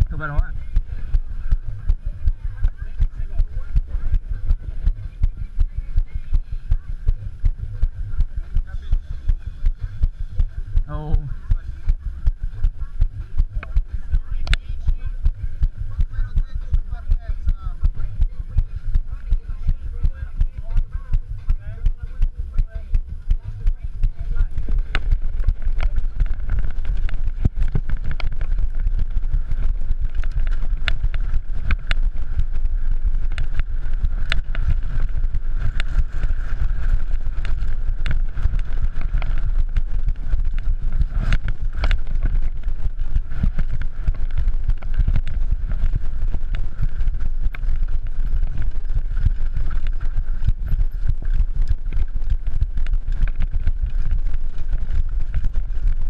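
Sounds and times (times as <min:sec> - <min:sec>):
bike rattling and knocking: 0:00.0 - 0:56.0
wind rumble on microphone: 0:00.0 - 0:56.0.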